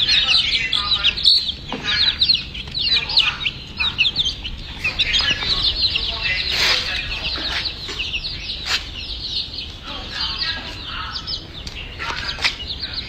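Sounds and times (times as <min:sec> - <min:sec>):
young chicks peeping: 0:00.0 - 0:13.0.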